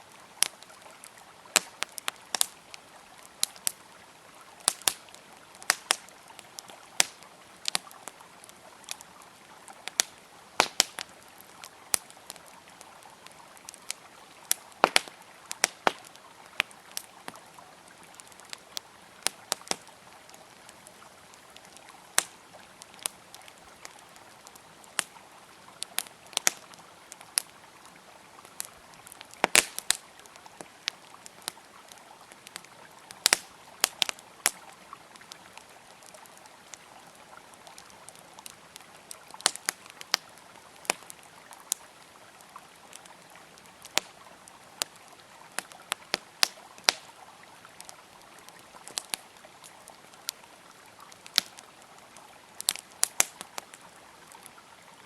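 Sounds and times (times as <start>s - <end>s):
wood fire crackling and popping: 0.0s - 54.6s
river water flowing: 0.0s - 55.0s.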